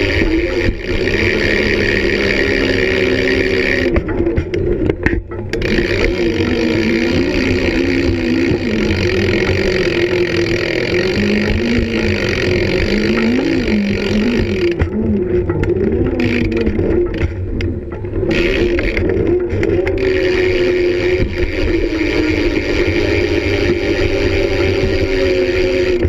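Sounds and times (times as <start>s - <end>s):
wheels rolling over concrete: 0.0s - 26.0s.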